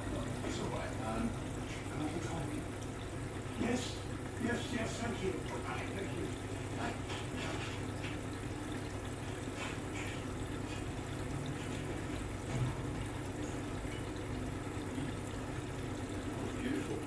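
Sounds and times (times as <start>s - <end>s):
washing machine low hum: 0.0s - 17.0s
water washing in drum: 0.0s - 17.0s.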